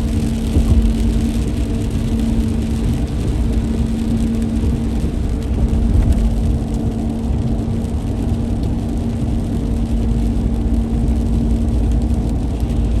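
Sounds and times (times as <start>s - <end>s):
engine hum: 0.0s - 13.0s
tyre and road rumble: 0.0s - 13.0s.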